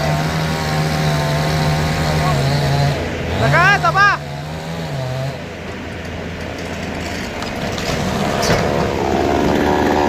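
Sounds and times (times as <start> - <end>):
engine running: 0.0 - 10.0
higher engine tone: 0.0 - 10.0.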